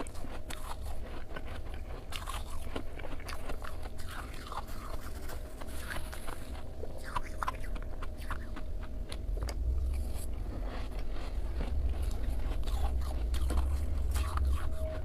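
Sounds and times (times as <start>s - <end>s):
frost being chewed crunching: 0.0s - 15.0s
steady low rumble: 0.0s - 15.0s.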